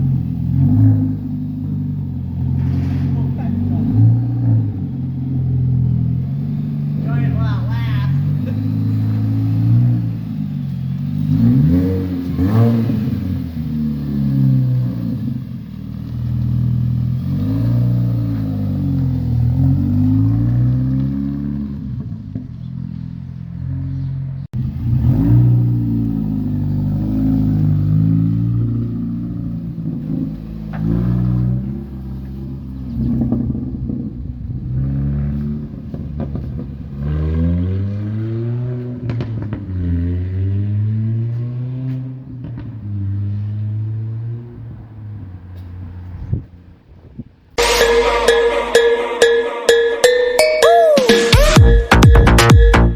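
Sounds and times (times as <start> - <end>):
car engine revving: 0.0 - 46.1.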